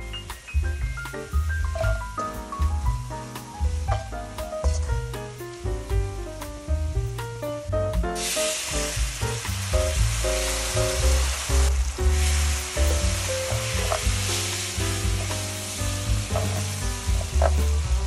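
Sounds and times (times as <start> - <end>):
background music: 0.0 - 18.0
food sizzling in hot oil: 0.0 - 18.0.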